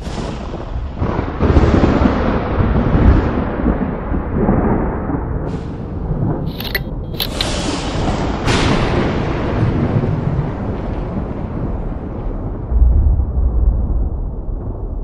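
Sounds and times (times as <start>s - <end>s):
crackling lightning strikes: 0.0s - 15.0s
thunder rumbling: 0.0s - 15.0s.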